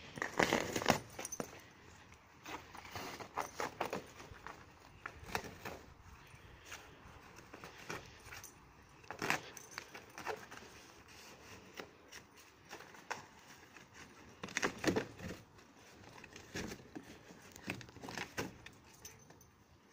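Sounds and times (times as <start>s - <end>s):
cardboard rustling and crinkling: 0.0s - 19.1s.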